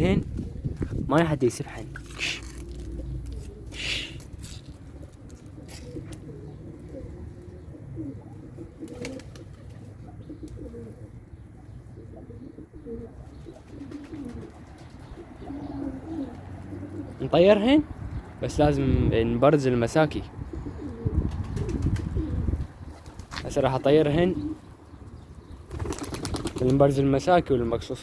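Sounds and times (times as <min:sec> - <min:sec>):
pigeons cooing: 0:02.0 - 0:19.1, 0:19.8 - 0:27.8.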